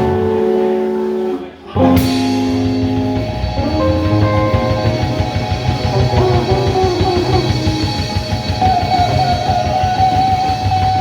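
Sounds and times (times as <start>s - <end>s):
drums and bass: 0.0s - 11.0s
lead guitar: 0.0s - 11.0s.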